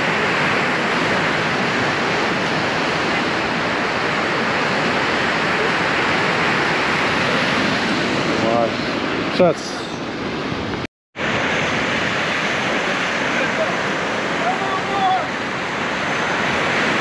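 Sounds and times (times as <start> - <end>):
sea surf rushing along shore: 0.0 - 17.0.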